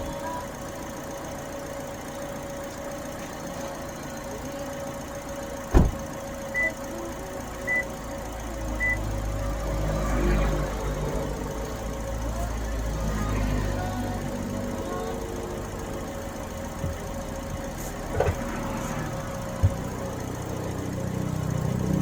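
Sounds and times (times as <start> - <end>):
car engine rumble: 0.0 - 22.0.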